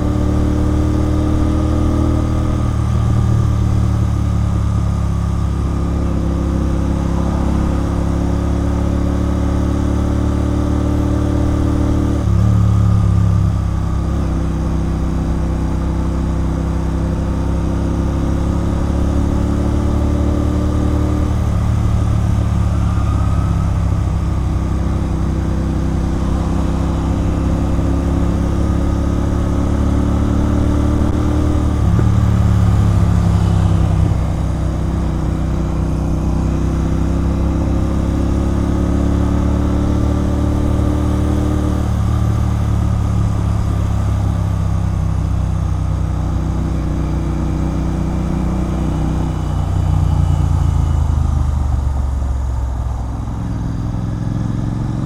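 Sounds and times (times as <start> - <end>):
motorcycle engine with loud exhaust: 0.0 - 55.0.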